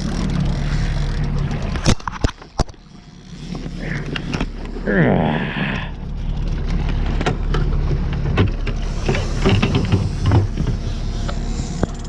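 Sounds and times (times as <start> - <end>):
knocks and clatter of fishing gear: 0.0 - 4.8, 6.0 - 12.0
boat motor humming: 0.0 - 12.0.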